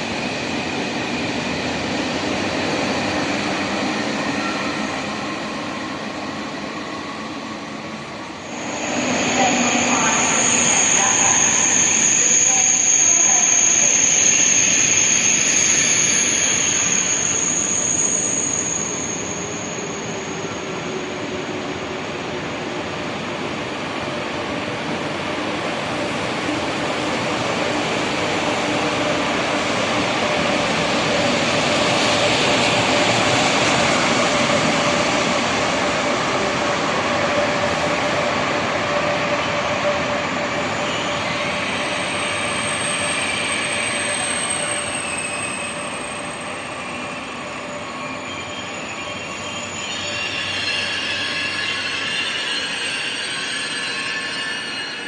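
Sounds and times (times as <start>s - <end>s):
train wheels rumbling rush: 0.0s - 55.0s.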